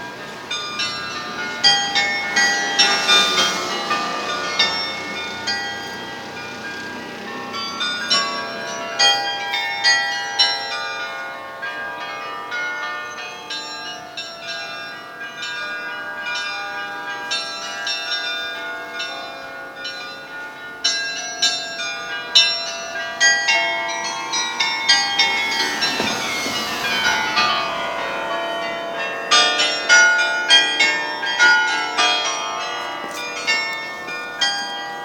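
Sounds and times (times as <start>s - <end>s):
carillon bells playing melody: 0.0s - 35.0s.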